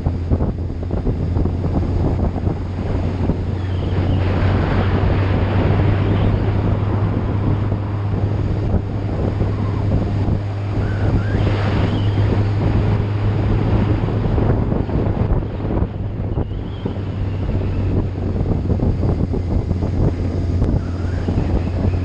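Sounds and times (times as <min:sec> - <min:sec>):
low engine hum: 0:00.0 - 0:22.0
wind buffeting microphone: 0:00.0 - 0:22.0.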